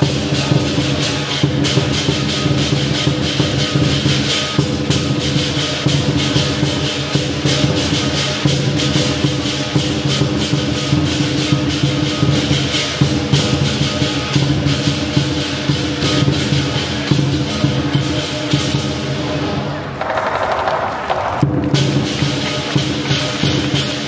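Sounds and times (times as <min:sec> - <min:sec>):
drum beating: 0:00.0 - 0:19.1, 0:19.9 - 0:24.0
cymbal strikes: 0:00.0 - 0:19.5.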